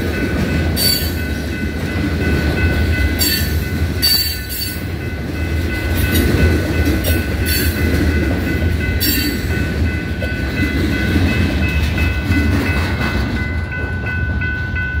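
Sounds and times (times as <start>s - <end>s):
crossing warning bell ringing: 0.0s - 15.0s
freight train rumbling past: 0.0s - 15.0s.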